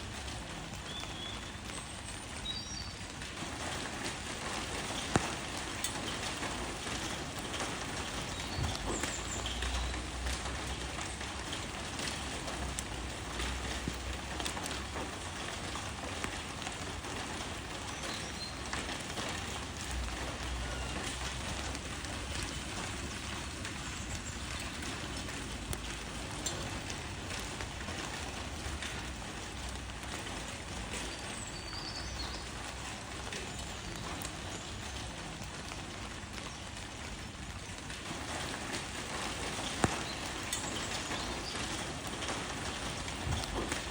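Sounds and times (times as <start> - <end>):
rain falling on leaves: 0.0 - 43.9.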